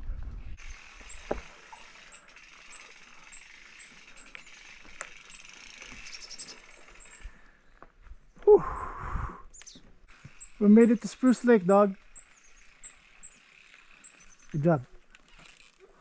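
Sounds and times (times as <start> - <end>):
bicycle freehub clicking: 0.2 - 7.9, 9.5 - 16.0.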